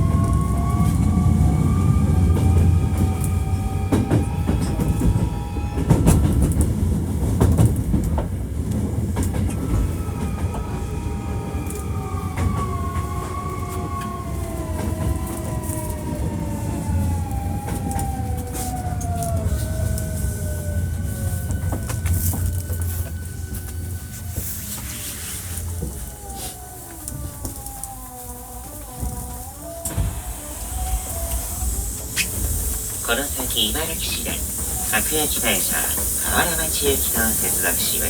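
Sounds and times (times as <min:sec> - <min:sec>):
electric train rumble: 0:00.0 - 0:38.0.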